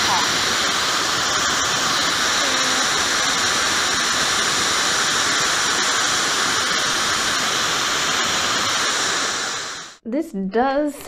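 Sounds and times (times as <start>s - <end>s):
hair dryer blowing air: 0.0s - 10.0s.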